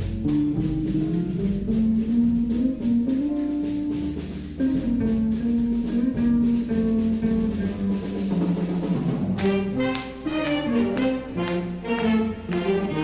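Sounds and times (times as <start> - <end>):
drum kit beat: 0.0 - 13.0
jazz band melody: 0.0 - 13.0.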